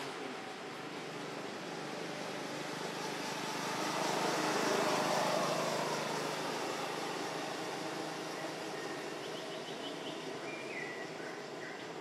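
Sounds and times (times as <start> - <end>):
motor vehicle passing by: 0.0 - 11.6.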